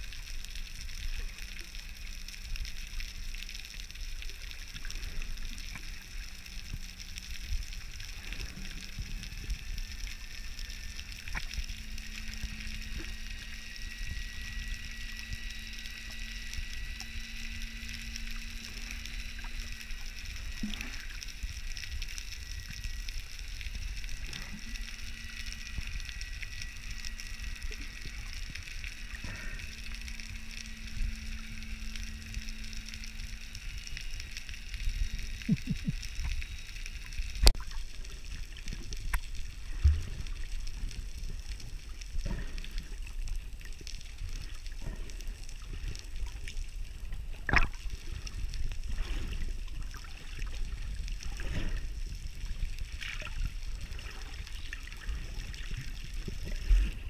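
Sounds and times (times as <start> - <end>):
faint hum: 0.0 - 57.0
underwater low rumble: 0.0 - 57.0.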